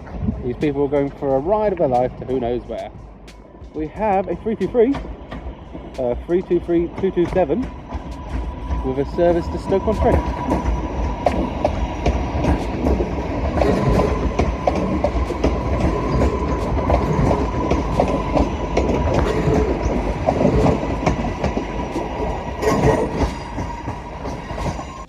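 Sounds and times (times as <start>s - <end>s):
train motor whine: 0.0s - 25.0s
train rumble: 0.0s - 25.0s
train wheels clicking over rail joints: 0.0s - 25.0s.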